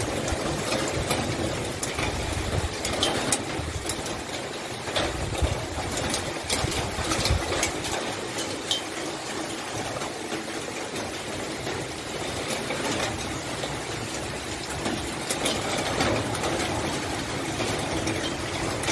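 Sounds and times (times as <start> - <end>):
heavy rain hissing: 0.0 - 18.9
raindrops tapping nearby: 0.0 - 18.9.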